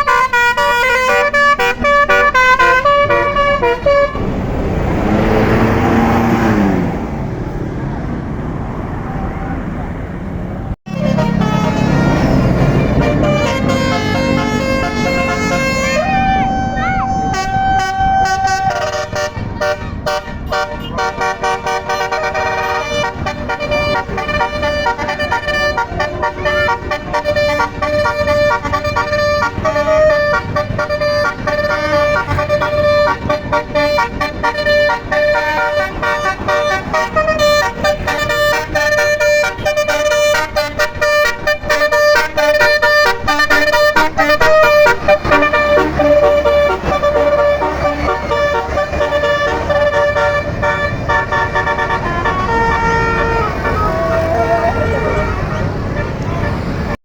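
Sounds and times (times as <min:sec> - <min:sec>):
bus horn playing a tune: 0:00.0 - 0:06.7, 0:10.8 - 0:57.0.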